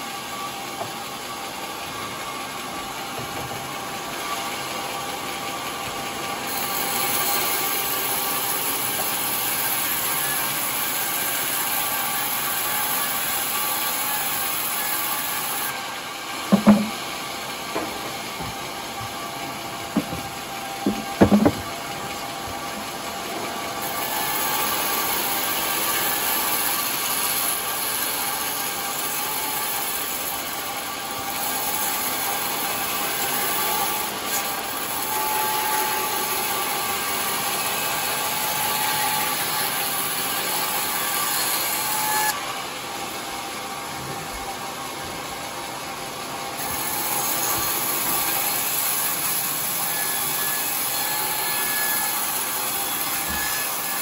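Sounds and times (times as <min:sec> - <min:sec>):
band saw cutting wood: 0:00.0 - 0:43.2, 0:46.5 - 0:54.0.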